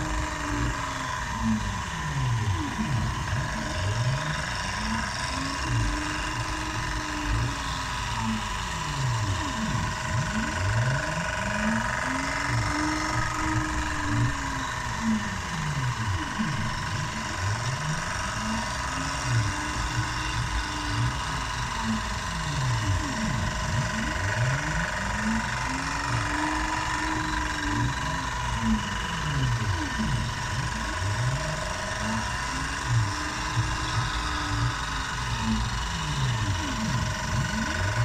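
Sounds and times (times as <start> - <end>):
milling machine spindle whine: 0.0 - 38.0
stepper motors whirring: 0.0 - 38.0.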